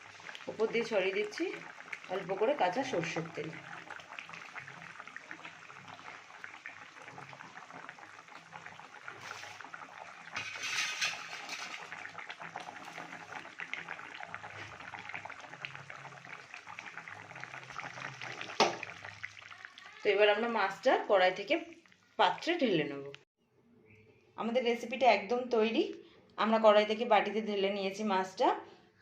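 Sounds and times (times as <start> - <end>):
curry bubbling and crackling: 0.0 - 23.2.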